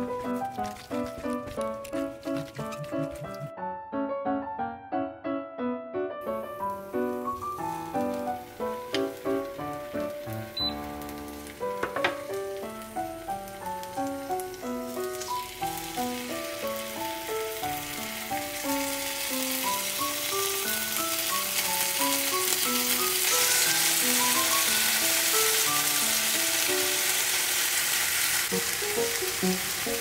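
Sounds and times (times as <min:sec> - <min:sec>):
roots sizzling in oil: 0:00.0 - 0:03.5, 0:06.2 - 0:30.0.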